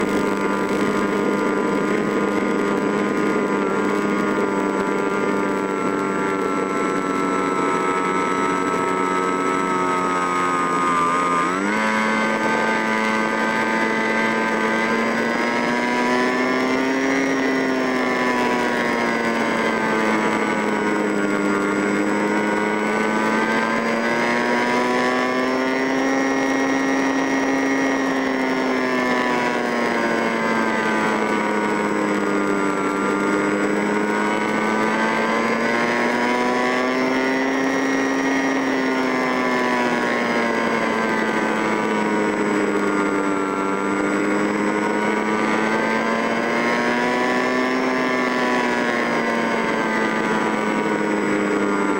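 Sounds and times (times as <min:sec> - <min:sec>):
small motor running under load: 0:00.0 - 0:51.9.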